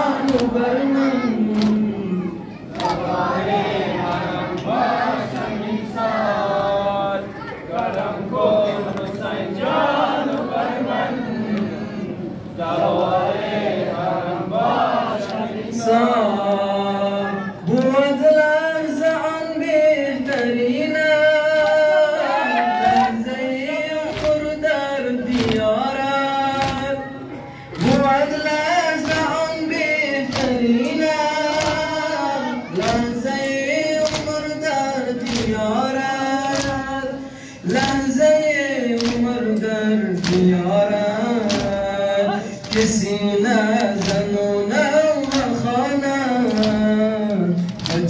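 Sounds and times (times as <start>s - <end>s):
men singing a mourning lament: 0.0s - 48.0s.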